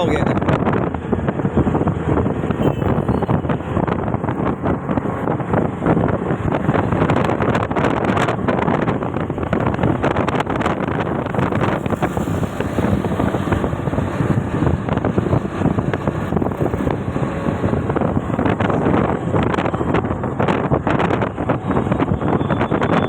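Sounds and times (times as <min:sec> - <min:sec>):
wind buffeting microphone: 0:00.0 - 0:23.0
train rumbling: 0:00.8 - 0:23.0.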